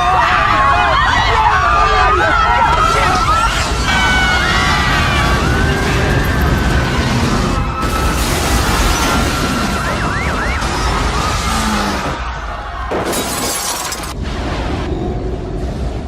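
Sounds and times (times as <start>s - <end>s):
loud rumbling din: 0.0s - 13.1s
sirens wailing: 0.0s - 13.1s.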